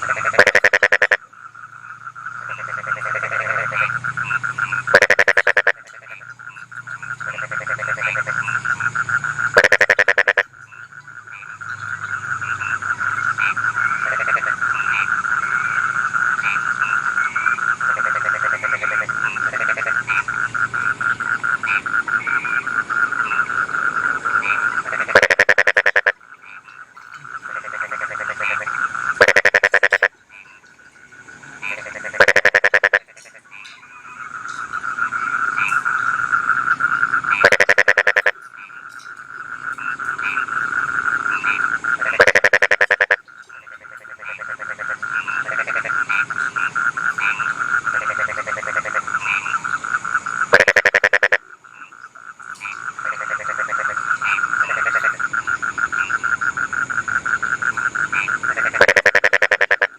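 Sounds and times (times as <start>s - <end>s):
frog chorus trilling: 0.0s - 59.9s
nearby frog croaks: 0.0s - 59.9s.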